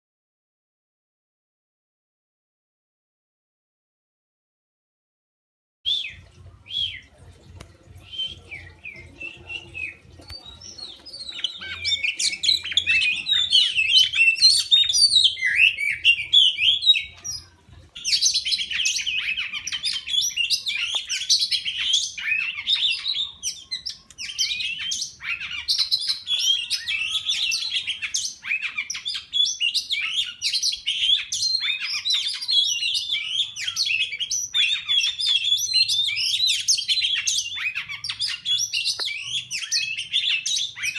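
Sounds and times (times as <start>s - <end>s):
magpie-robins chirping: 5.9s - 40.9s.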